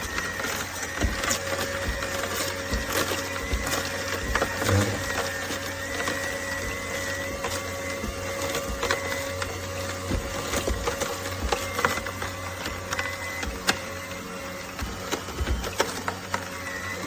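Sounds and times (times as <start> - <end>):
juicer motor running: 0.0 - 17.0
produce cracking and crunching: 0.0 - 17.0.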